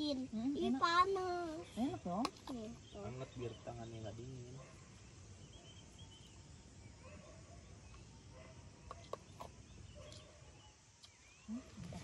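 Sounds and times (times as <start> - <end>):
faint chirps: 0.3 - 12.0.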